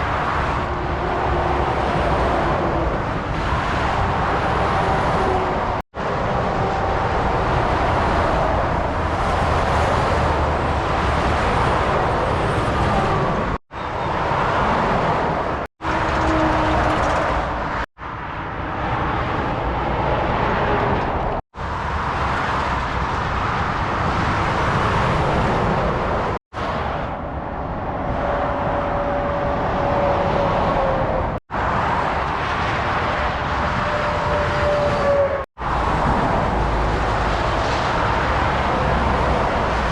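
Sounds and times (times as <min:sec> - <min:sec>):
motorway traffic passing: 0:00.0 - 0:39.9.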